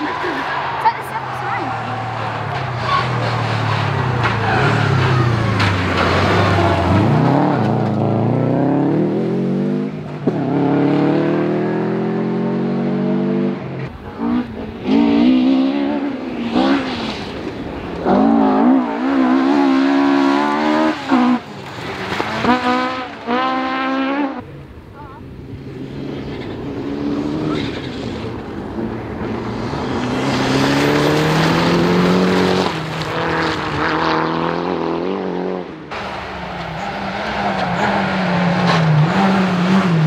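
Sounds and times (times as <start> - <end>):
rally car engine at high revs: 0.0 - 24.4, 25.6 - 40.0
rally car engine changing gears: 0.0 - 24.4, 25.6 - 40.0.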